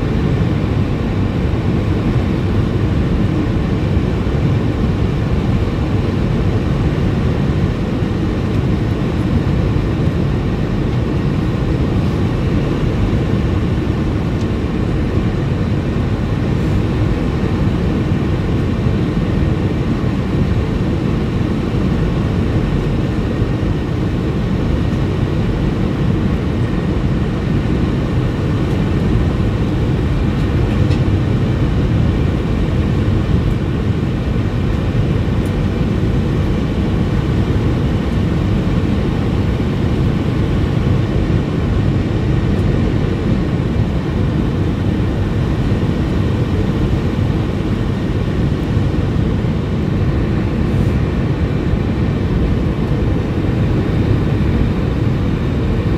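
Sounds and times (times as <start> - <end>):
airplane cabin rumble: 0.0 - 55.9.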